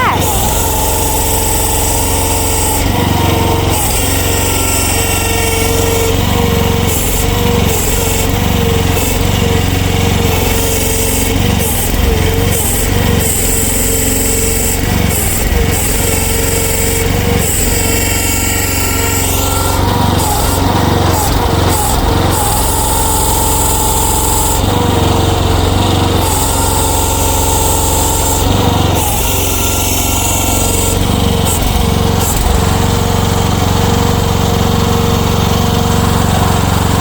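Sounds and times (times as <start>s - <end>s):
small engine running: 0.0s - 37.0s.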